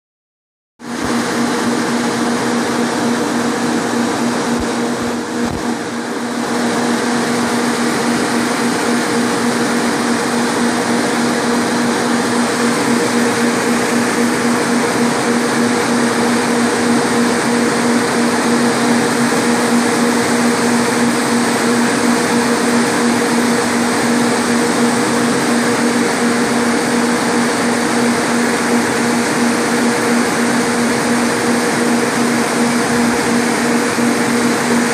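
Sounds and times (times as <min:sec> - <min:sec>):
cooling fans running: 0:00.8 - 0:34.9.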